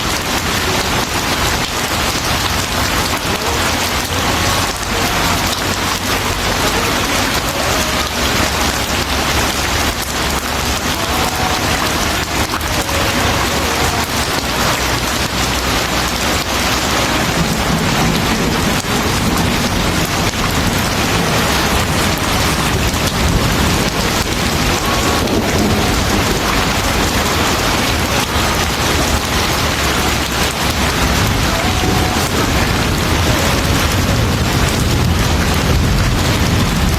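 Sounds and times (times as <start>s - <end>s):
heavy rain pattering: 0.0s - 36.9s.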